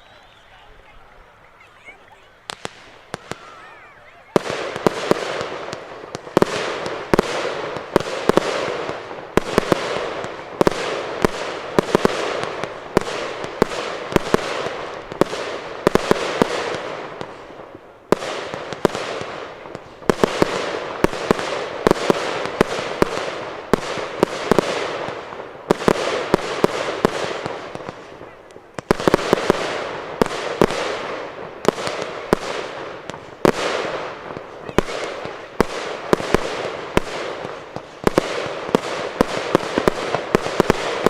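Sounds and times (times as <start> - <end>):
fireworks booming and crackling: 0.0 - 41.0.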